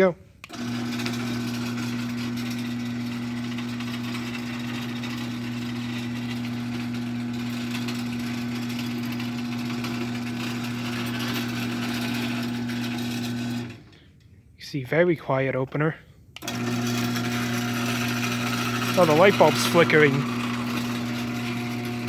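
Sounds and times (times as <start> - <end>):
chain drive whir: 0.4 - 14.0, 16.4 - 22.0
garage door opener motor hum: 0.4 - 14.1, 16.4 - 22.0.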